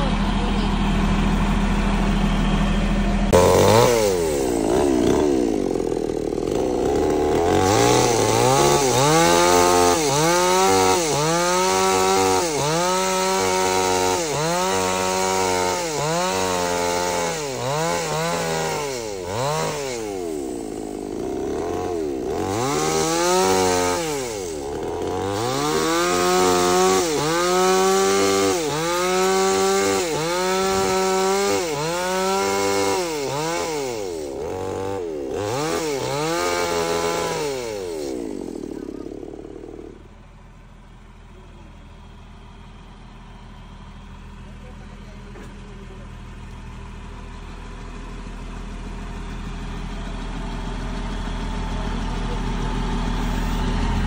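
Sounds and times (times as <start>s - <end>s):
engine revving: 0.0s - 40.2s, 49.3s - 54.0s.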